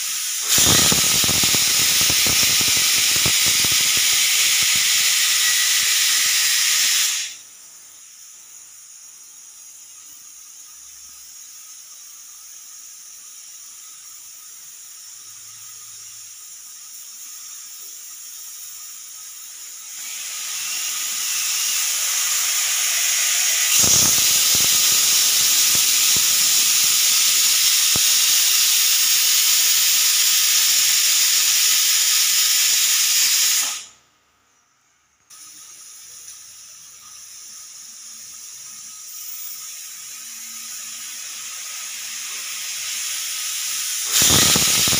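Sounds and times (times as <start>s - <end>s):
pressure cooker whistle venting steam: 0.0s - 34.0s, 35.3s - 44.9s.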